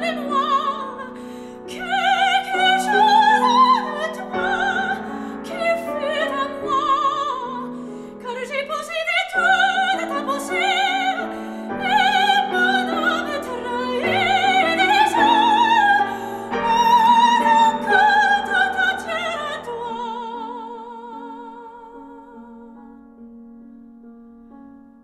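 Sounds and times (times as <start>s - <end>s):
soprano singing: 0.0s - 23.3s
grand piano: 0.0s - 25.0s.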